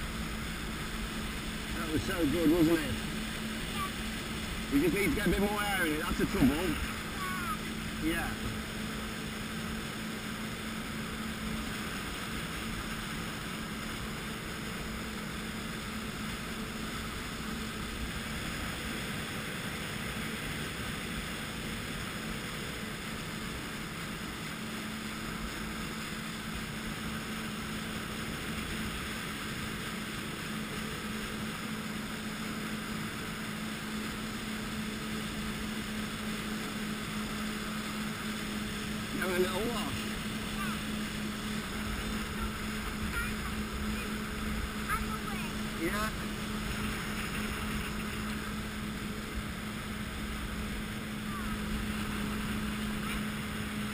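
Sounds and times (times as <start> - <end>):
jet ski engine humming: 0.0 - 53.9
rushing water and wind: 0.0 - 53.9.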